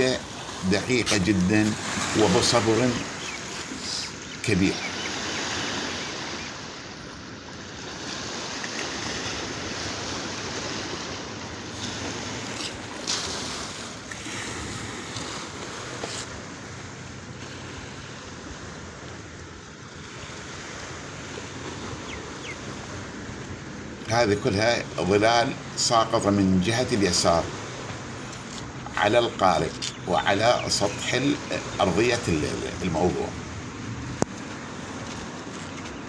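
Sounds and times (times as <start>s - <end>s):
sea surf washing on shore: 0.0s - 36.0s.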